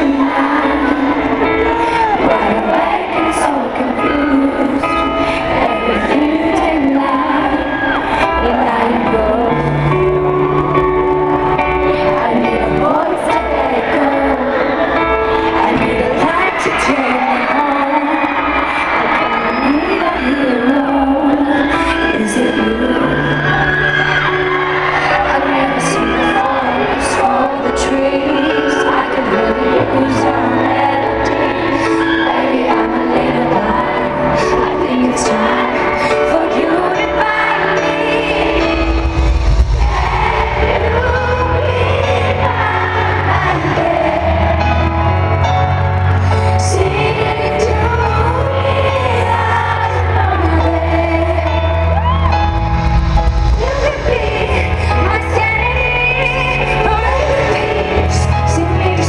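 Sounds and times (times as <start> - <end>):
woman singing a pop ballad: 0.0 - 10.4, 11.8 - 23.8, 24.9 - 52.4, 53.5 - 59.0
live band accompaniment: 0.0 - 59.0.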